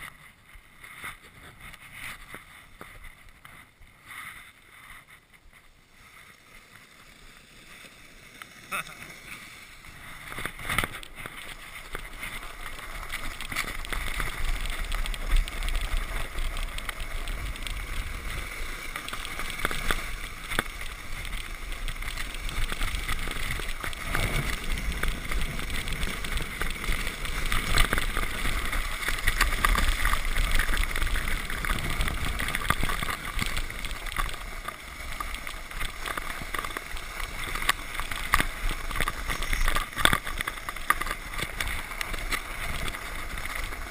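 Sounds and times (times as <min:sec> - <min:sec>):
sled scraping over snow: 0:00.0 - 0:43.9.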